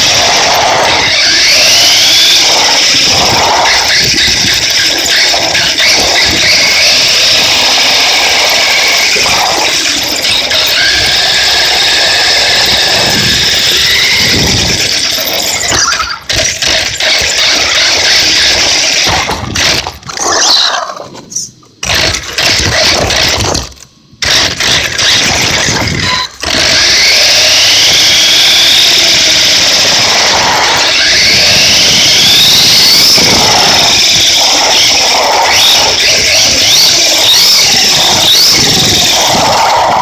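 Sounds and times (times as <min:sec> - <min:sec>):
electric motor whine: 0:00.0 - 0:19.9, 0:24.2 - 0:40.0.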